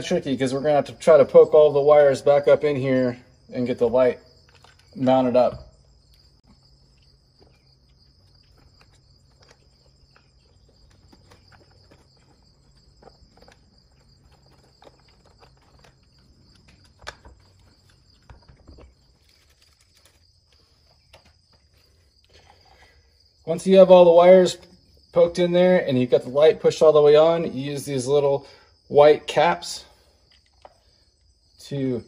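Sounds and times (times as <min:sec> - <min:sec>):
high insect trill: 0:00.0 - 0:32.0.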